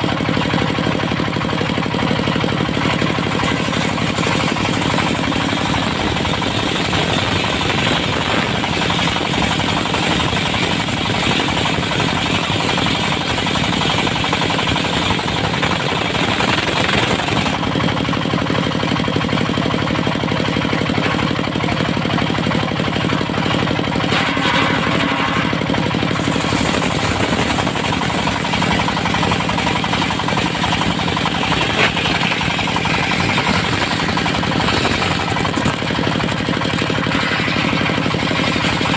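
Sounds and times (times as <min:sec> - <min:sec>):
circular saw cutting wood: 0:01.8 - 0:18.4, 0:20.9 - 0:38.9.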